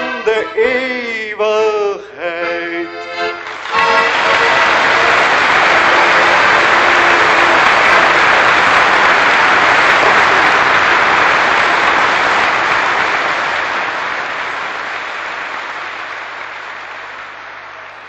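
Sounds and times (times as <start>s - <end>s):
audience applauding: 3.2s - 18.0s.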